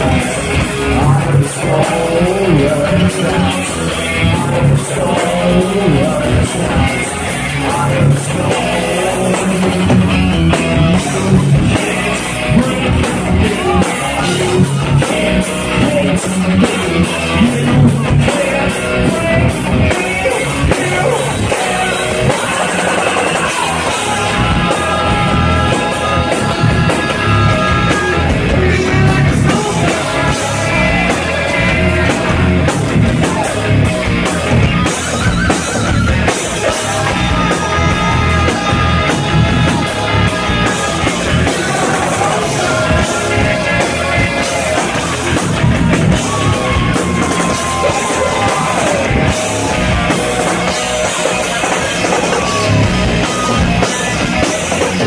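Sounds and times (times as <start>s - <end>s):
bass guitar: 0.0s - 55.0s
drums: 0.0s - 55.0s
electric guitar: 0.0s - 55.0s
person singing: 0.0s - 55.0s.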